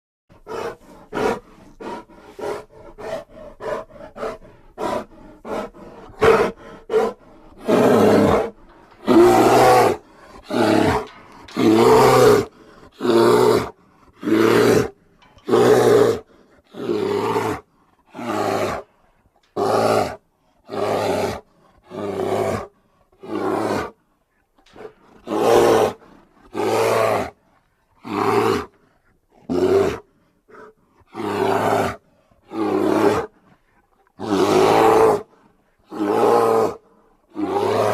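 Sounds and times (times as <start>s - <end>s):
bear roaring: 0.4s - 24.0s, 24.6s - 27.4s, 28.0s - 37.9s.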